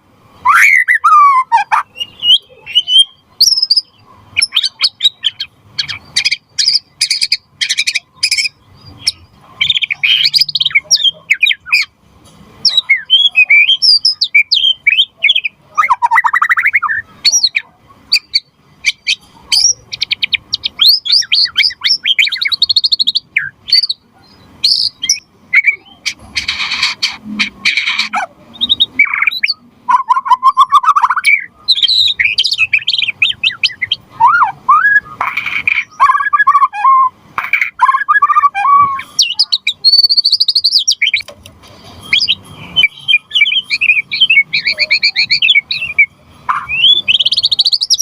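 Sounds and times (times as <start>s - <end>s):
songbird singing: 0.0s - 48.0s.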